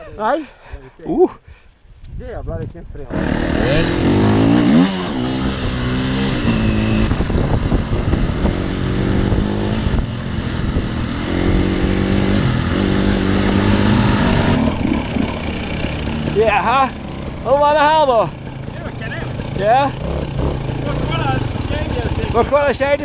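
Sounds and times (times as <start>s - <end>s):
dirt bike engine revving: 3.1s - 23.0s.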